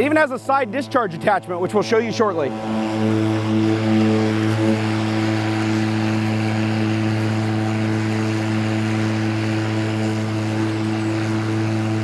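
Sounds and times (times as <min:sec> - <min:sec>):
electric lawn mower humming: 0:00.0 - 0:12.0.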